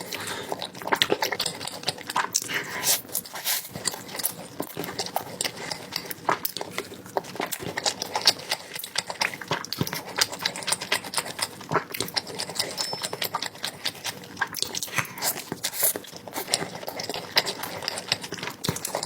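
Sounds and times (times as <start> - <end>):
chewing and smacking: 0.0 - 19.0.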